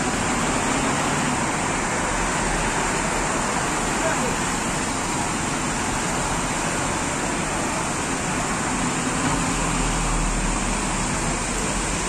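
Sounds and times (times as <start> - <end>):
fountain water spraying: 0.0 - 12.0
road traffic: 0.0 - 12.0.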